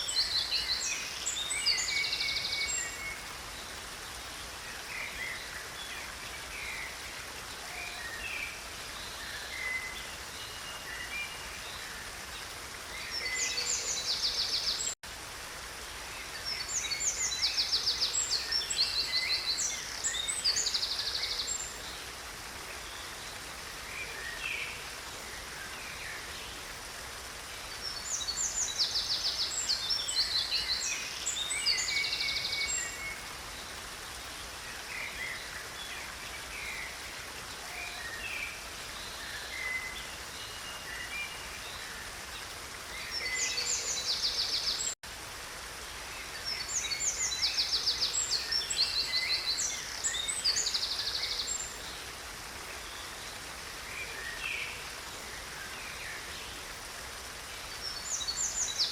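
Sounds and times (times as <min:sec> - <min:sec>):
creek water running: 0:00.0 - 0:58.9.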